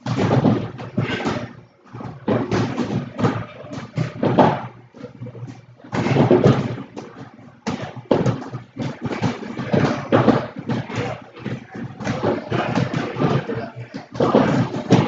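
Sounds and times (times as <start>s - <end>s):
gym clatter: 0.0s - 15.0s
punches thudding on heavy bags: 0.0s - 15.0s.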